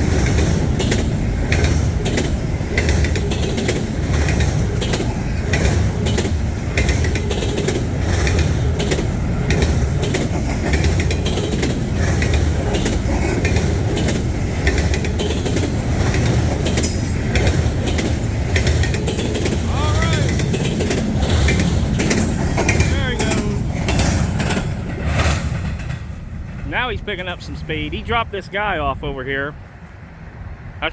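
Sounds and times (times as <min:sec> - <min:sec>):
train wheel clicks: 0:00.0 - 0:26.7
train rumbling past: 0:00.0 - 0:30.9.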